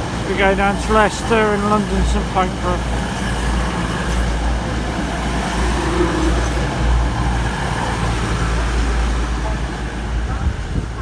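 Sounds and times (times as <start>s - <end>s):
diesel train engine rumbling: 0.0s - 11.0s.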